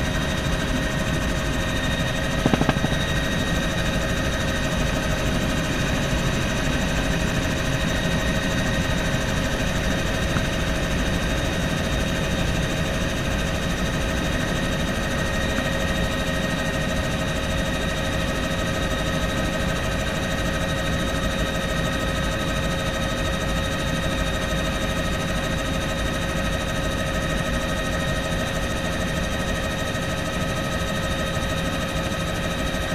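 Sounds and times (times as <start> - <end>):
helicopter engine and rotor drone: 0.0 - 32.9.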